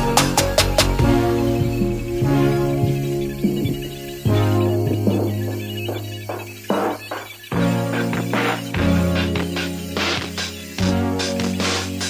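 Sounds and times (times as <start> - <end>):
background music with plucked notes: 0.0 - 12.0.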